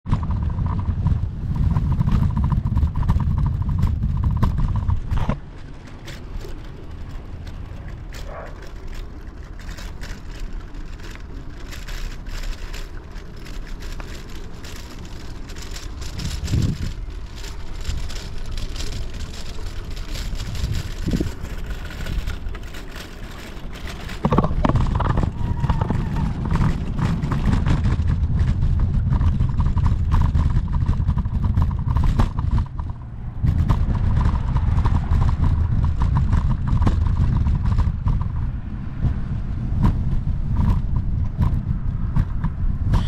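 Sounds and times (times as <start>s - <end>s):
bicycle tyres on wooden boardwalk: 0.0s - 43.0s
wind rumble on microphone: 0.0s - 43.0s
clicks and rattles: 0.1s - 38.5s.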